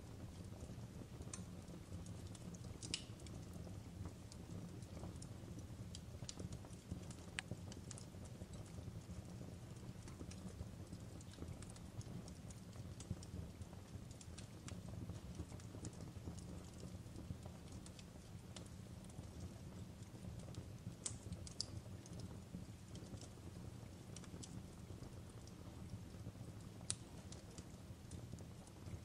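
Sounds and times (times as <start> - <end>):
wood fire crackling and snapping: 0.0 - 29.0.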